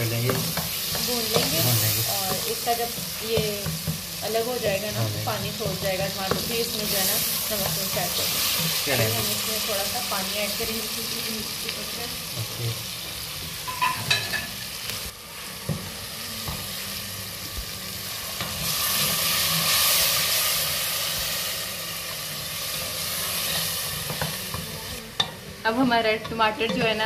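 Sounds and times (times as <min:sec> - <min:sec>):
food sizzling in oil: 0:00.0 - 0:27.0.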